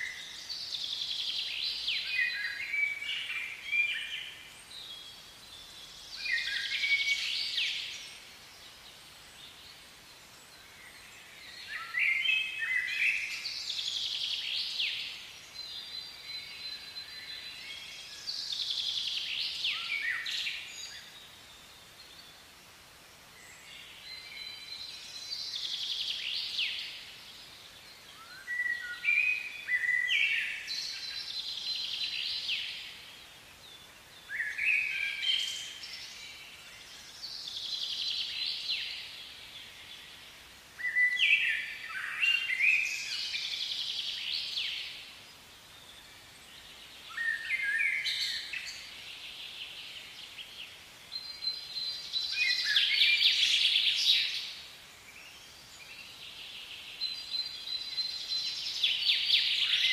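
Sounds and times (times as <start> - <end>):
faint outdoor background noise: 0.0 - 59.9
songbird singing: 0.0 - 59.9.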